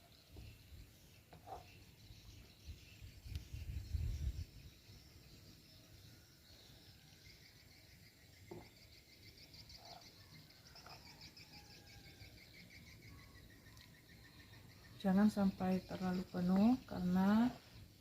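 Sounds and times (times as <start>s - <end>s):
faint rapid rhythmic chirping: 0.1s - 18.0s.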